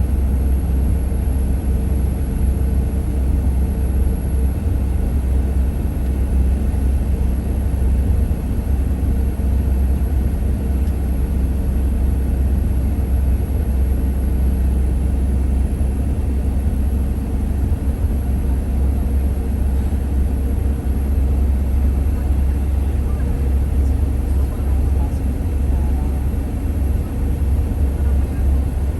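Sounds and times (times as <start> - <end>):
road vehicle driving: 4.4 - 28.9.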